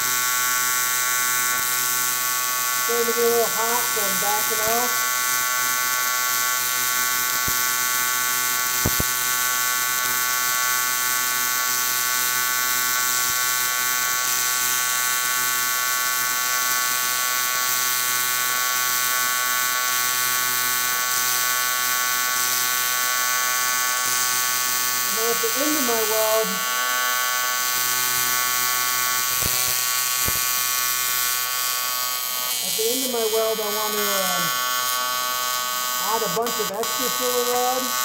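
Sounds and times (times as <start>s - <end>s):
welding arc buzzing: 0.0s - 38.0s.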